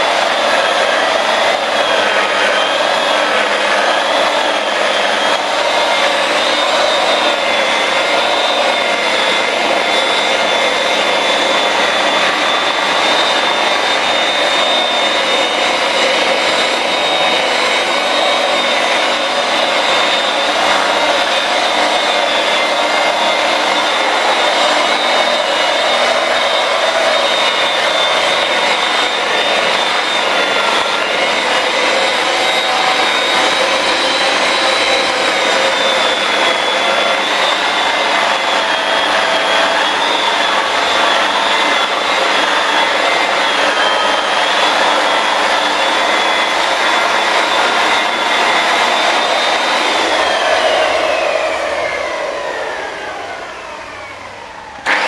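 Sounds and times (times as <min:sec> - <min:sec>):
electric polisher motor whine: 0:00.0 - 0:55.0.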